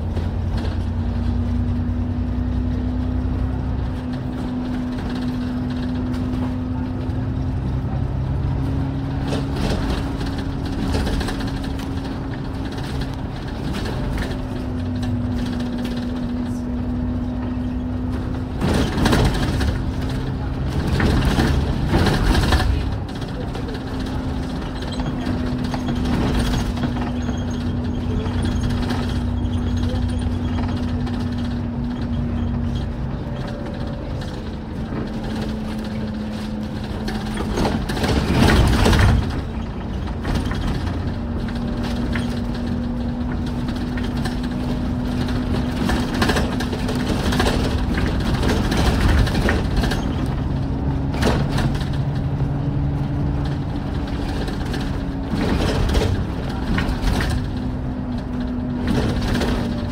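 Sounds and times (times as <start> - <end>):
bus engine drone: 0.0 - 59.9
body rattles: 8.4 - 59.9.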